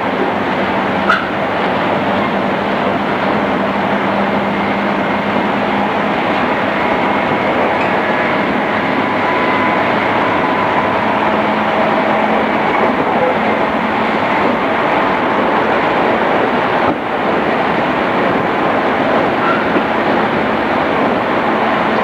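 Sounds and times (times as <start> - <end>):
train wheels and motors rumbling: 0.0 - 22.0.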